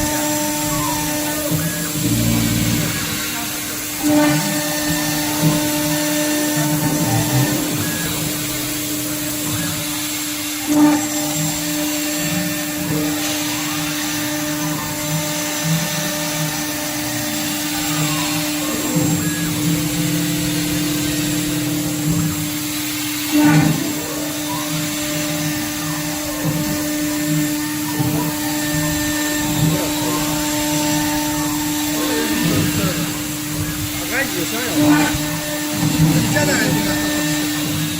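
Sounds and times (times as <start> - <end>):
router spindle cutting metal: 0.0 - 37.9.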